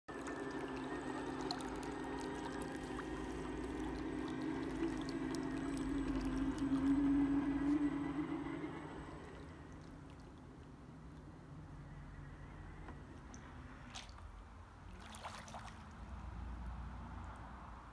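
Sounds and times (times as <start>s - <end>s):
low motor hum: 0.1s - 17.6s
propeller churning water: 0.1s - 17.7s.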